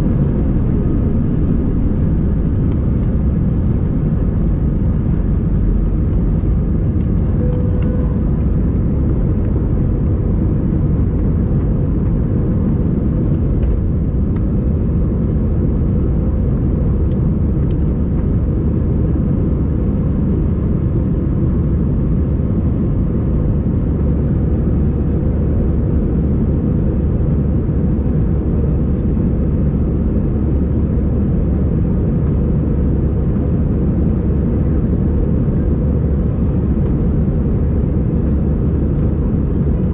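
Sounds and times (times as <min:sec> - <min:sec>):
aircraft cabin drone: 0:00.0 - 0:39.9.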